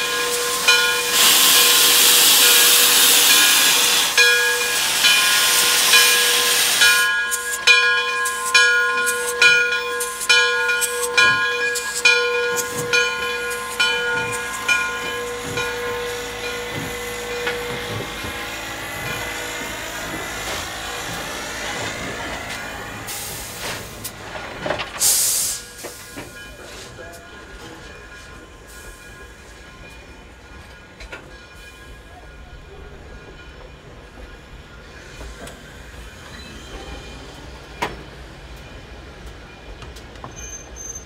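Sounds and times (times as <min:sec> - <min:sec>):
steam hissing from cylinder cocks: 0:00.0 - 0:41.0
steam locomotive exhaust chuffs: 0:00.0 - 0:41.0.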